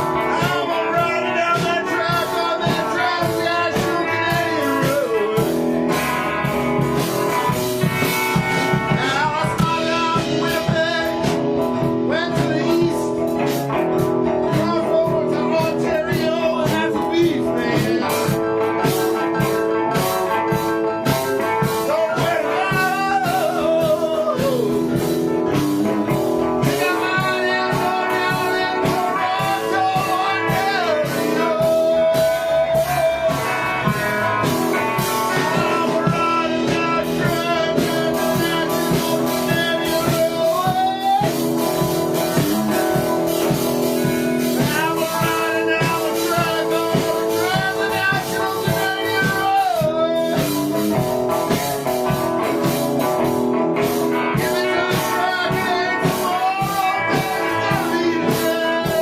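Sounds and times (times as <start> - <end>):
blues band playing: 0.0 - 59.0
guitar lead line bending: 0.0 - 59.0.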